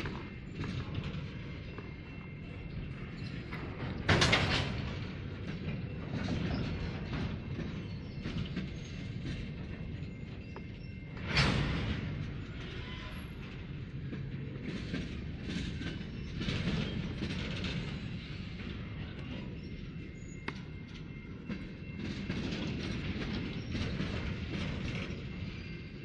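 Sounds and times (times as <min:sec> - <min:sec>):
wheels clattering over rail joints: 0:00.0 - 0:26.0
train rumbling past: 0:01.2 - 0:26.0.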